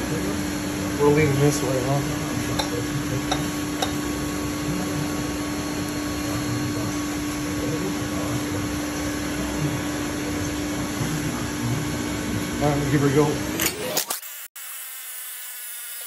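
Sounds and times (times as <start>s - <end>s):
machinery hum and hiss: 0.0s - 13.8s.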